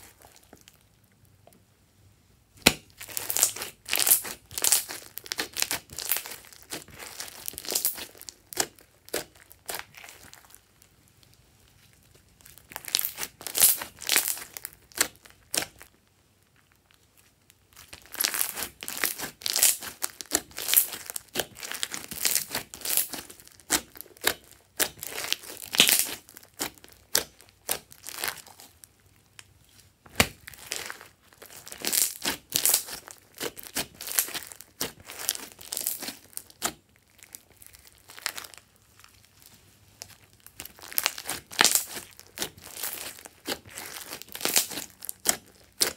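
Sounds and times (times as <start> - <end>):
slime crackling and popping: 0.0 - 1.6, 2.6 - 45.9.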